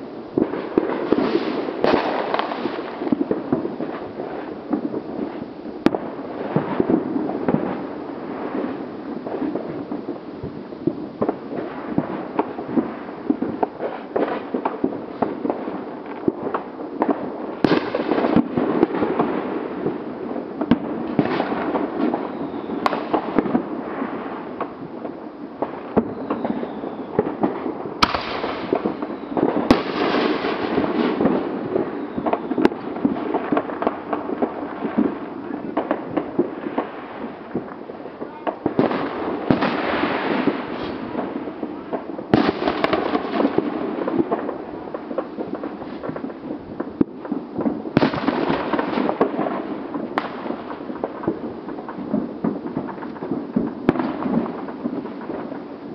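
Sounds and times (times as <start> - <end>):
firecrackers crackling: 0.0 - 55.9
loud firework bangs: 0.0 - 55.9.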